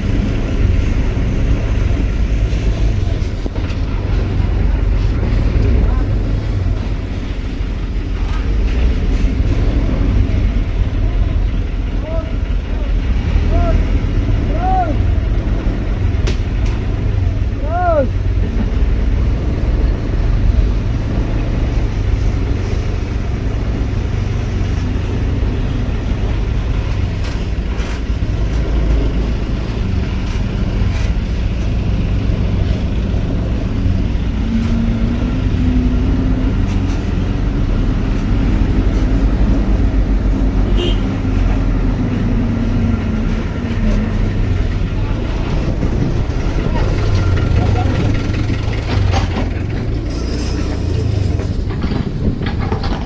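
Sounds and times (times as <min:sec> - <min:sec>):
diesel engine rumbling: 0:00.0 - 0:53.0.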